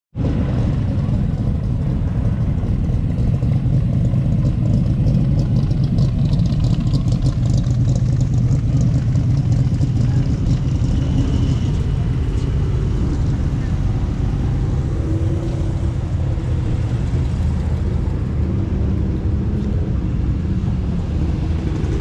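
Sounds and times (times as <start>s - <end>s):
car engine running: 0.2s - 22.0s.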